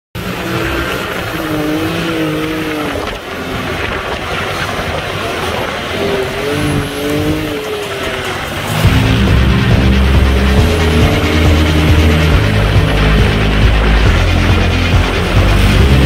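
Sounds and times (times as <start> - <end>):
utility vehicle engine under load: 0.2 - 16.0
wind and driving noise: 0.2 - 16.0.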